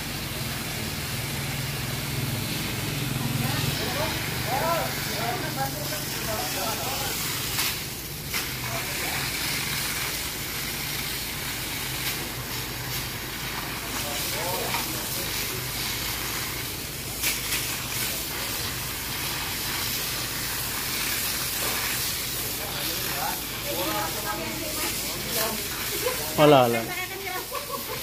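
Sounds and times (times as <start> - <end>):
fire hose water jet hissing: 0.0 - 28.0.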